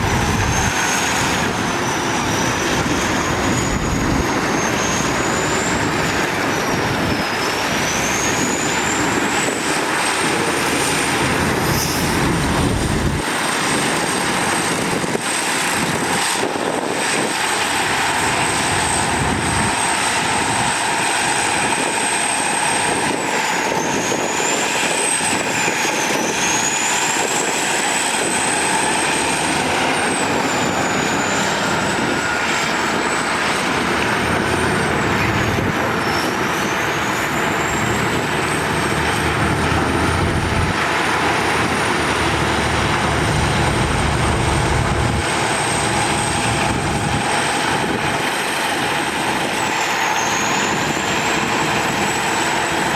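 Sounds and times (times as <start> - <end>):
heavy diesel machinery running: 0.0 - 52.9.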